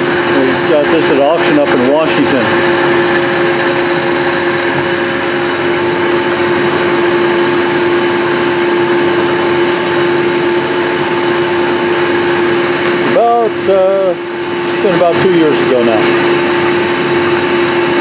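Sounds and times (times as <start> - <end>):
bandsaw cutting metal: 0.0 - 18.0.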